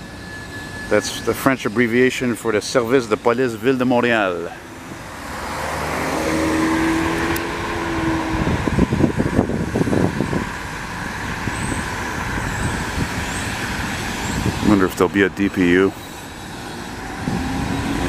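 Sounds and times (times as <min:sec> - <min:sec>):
freight train rumbling over bridge: 0:00.0 - 0:18.0
road traffic passing: 0:00.0 - 0:18.0.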